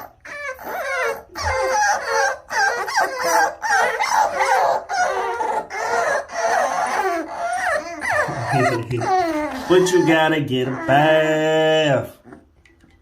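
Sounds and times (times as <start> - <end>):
puppies whining and howling: 0.0 - 12.6.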